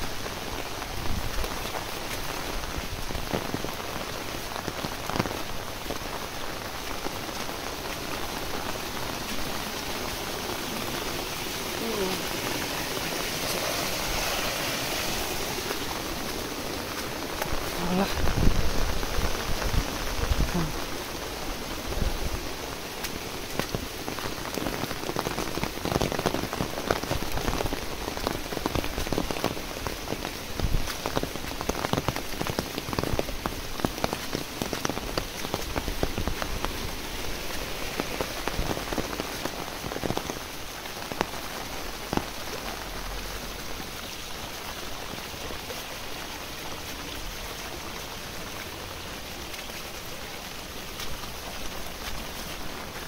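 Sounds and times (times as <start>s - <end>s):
heavy rain on leaves: 0.0s - 53.0s.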